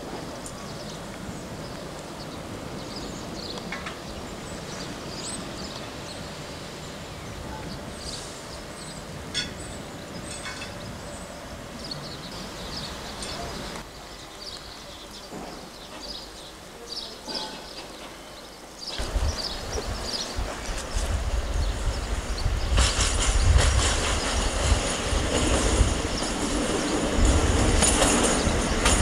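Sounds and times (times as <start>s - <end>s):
birds chirping: 0.1s - 29.0s.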